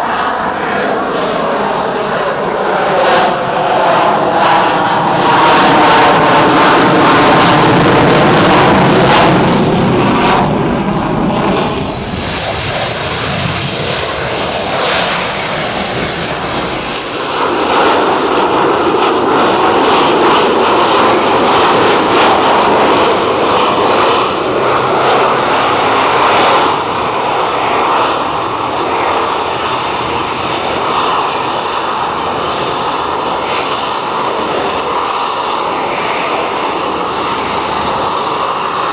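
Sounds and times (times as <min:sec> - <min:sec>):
jet flying overhead: 0:00.0 - 0:38.9.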